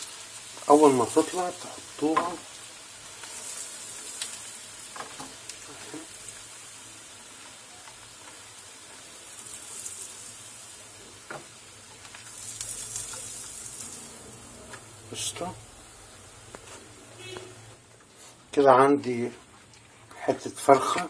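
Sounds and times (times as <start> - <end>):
kebabs sizzling in hot oil: 0.0 - 21.0.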